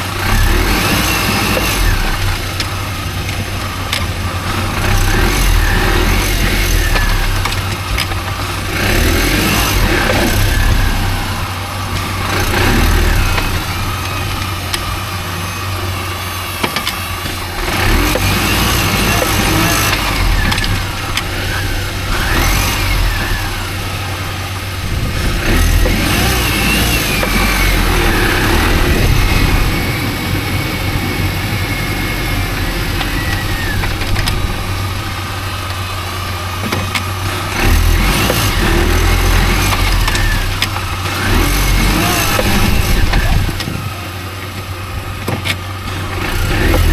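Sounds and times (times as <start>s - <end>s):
car engine whine: 0.0s - 46.9s.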